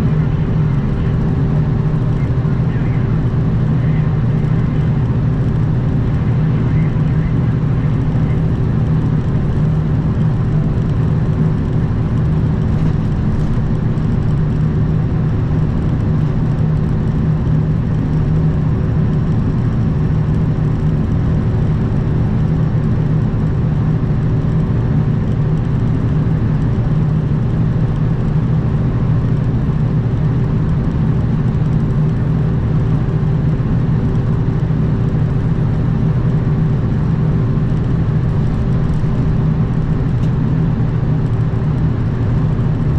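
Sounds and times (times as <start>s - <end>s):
truck diesel engine droning: 0.0s - 42.9s.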